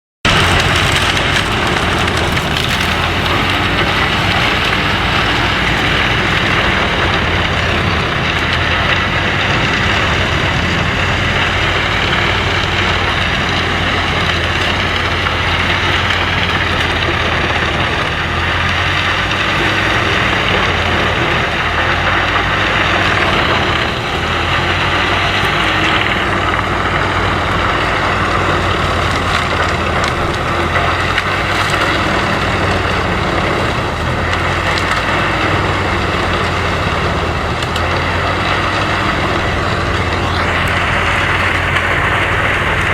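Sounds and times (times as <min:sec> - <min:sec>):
wood chipper engine drone: 0:00.0 - 0:42.9.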